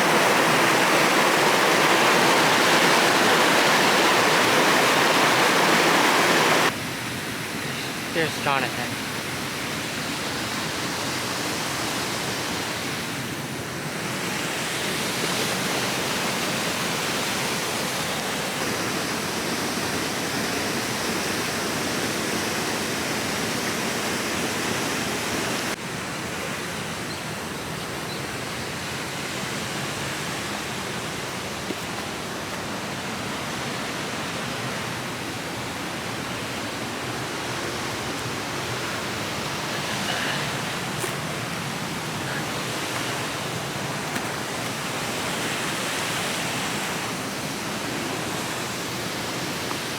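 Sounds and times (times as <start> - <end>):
creek water over rocks: 0.0 - 49.9.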